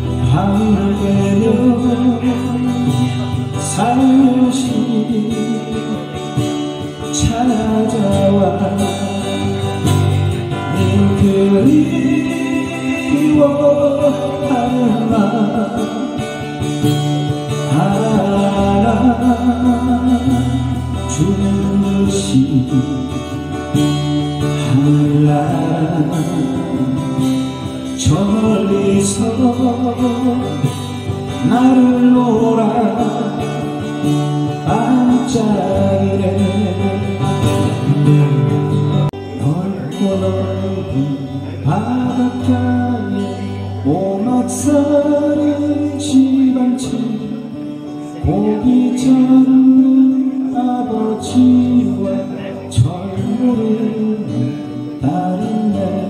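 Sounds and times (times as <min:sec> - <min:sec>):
acoustic guitars playing: 0:00.0 - 0:56.0
man singing: 0:00.0 - 0:56.0.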